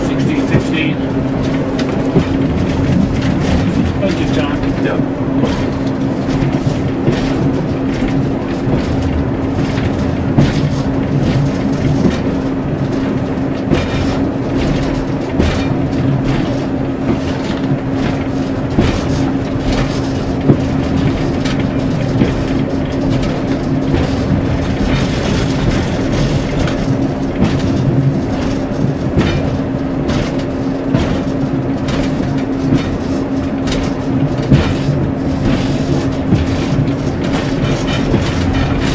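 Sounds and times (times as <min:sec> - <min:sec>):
diesel engine drone: 0:00.0 - 0:38.9
train body rattling: 0:00.0 - 0:38.9
wheels clicking on track: 0:00.0 - 0:38.9.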